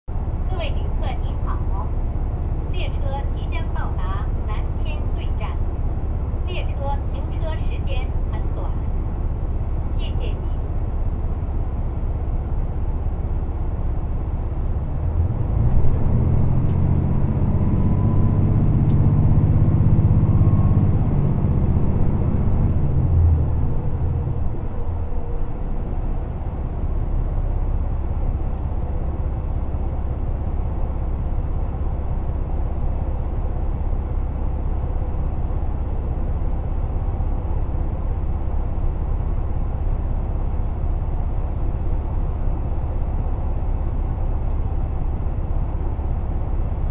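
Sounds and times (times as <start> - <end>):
deep hum: 0.1 - 38.2
train rumbling inside carriage: 0.1 - 46.9.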